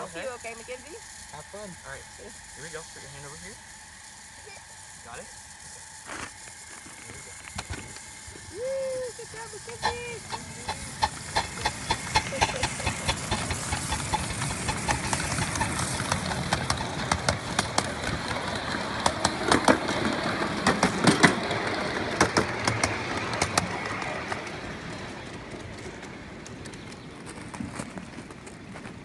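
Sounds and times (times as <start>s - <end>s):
miniature steam locomotive clicking: 0.0s - 29.0s.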